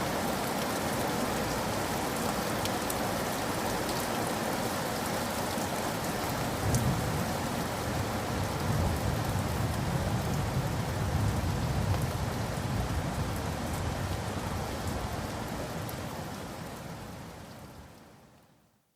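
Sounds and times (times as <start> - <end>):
steady rain falling: 0.0 - 18.8.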